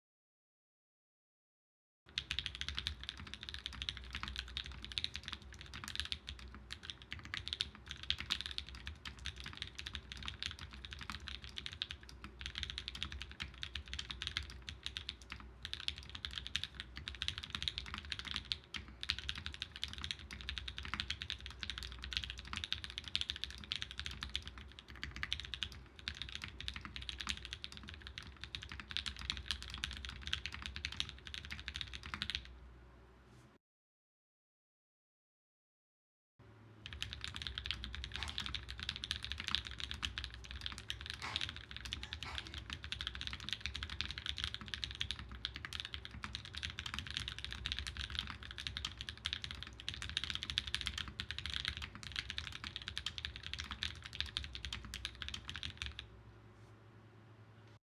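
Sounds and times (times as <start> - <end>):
mechanical keyboard typing: 2.1 - 32.5, 36.8 - 56.1.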